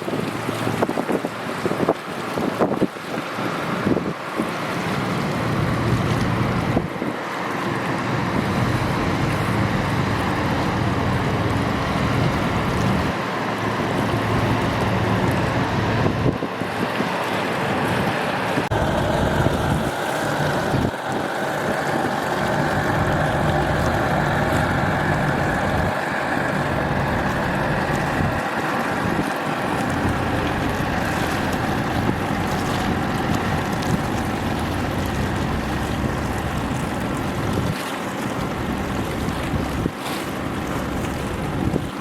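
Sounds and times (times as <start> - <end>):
ship engine drone: 0.0 - 42.0
wind buffeting microphone: 0.0 - 42.0.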